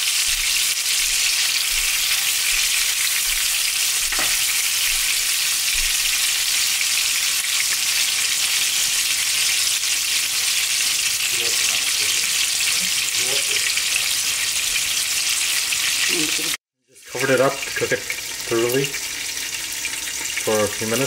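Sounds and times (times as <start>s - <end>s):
kebabs sizzling in a pan: 0.0s - 21.0s.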